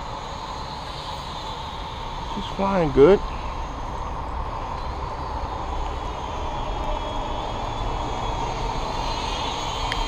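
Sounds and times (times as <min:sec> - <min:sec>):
toy drone motors whining: 0:00.0 - 0:10.0.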